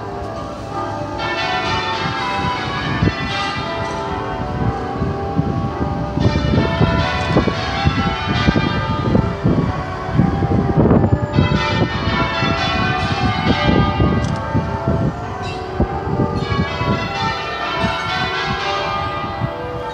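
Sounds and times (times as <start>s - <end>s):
church bells ringing: 0.0s - 19.9s.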